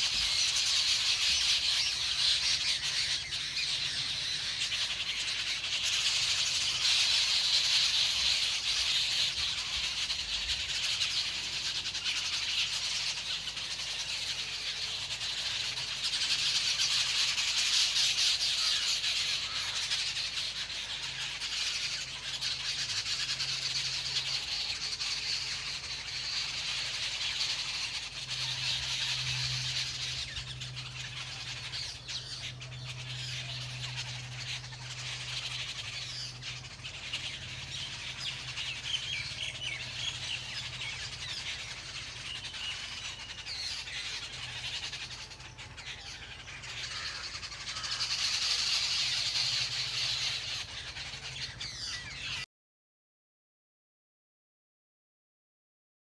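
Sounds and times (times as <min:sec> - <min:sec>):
birds chattering: 0:00.0 - 0:52.5.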